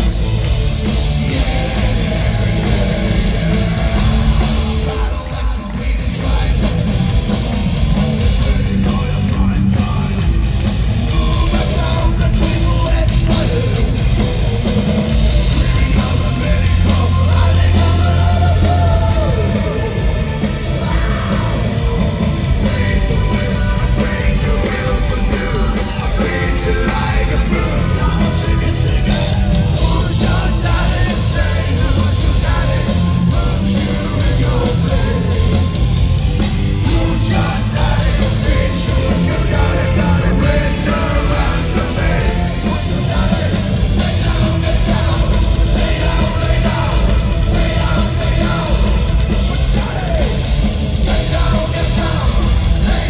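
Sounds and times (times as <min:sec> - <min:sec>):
heavy metal band playing live: 0:00.0 - 0:53.0
singing over band: 0:00.0 - 0:53.0.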